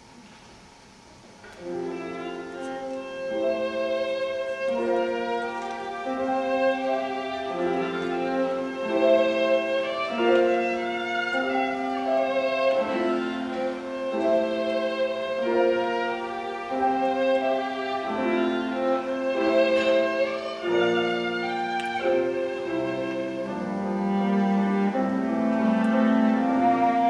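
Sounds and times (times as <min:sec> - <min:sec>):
bowed violin: 0:01.6 - 0:27.0
chamber quartet playing: 0:01.6 - 0:27.0.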